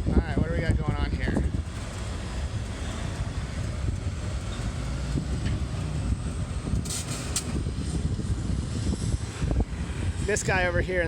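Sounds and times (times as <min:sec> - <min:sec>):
vehicle engines rumbling: 0:00.0 - 0:11.0
wind noise on microphone: 0:00.0 - 0:11.0.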